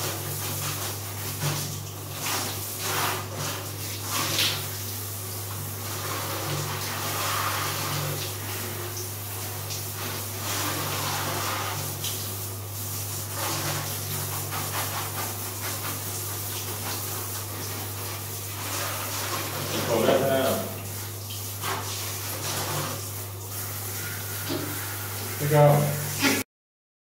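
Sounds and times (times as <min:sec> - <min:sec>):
shower hose spraying water: 0:00.0 - 0:26.4.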